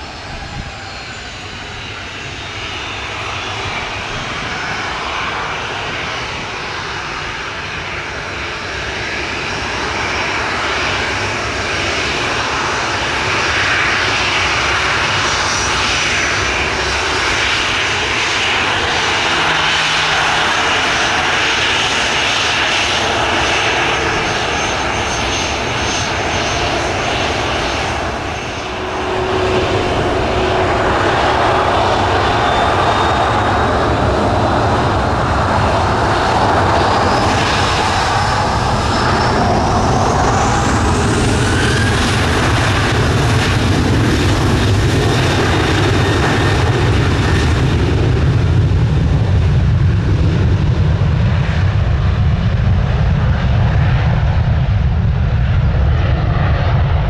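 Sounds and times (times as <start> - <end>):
jet airliner taxiing: 0.0 - 57.0.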